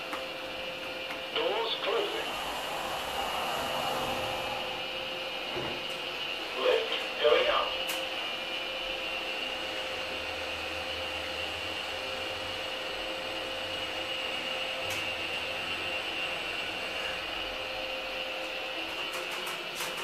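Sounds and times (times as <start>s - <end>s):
elevator whirring hum with whine: 0.0s - 20.0s.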